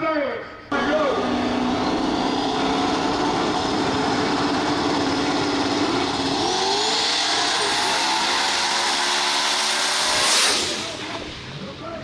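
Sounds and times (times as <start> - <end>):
race car engine running: 0.7 - 12.0.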